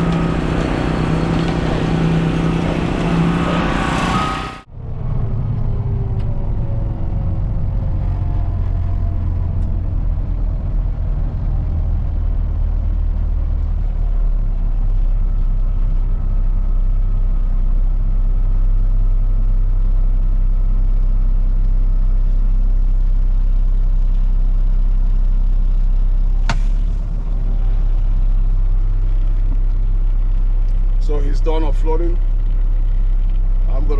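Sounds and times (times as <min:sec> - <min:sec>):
diesel truck engine rumbling: 0:00.0 - 0:33.9.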